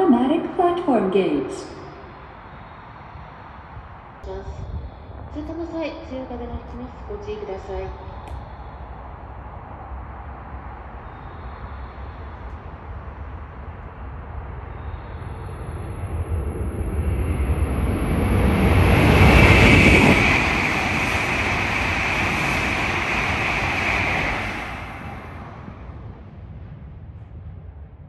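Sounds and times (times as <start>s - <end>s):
thin high whine: 0.0s - 26.1s
train rushing past: 0.0s - 26.8s.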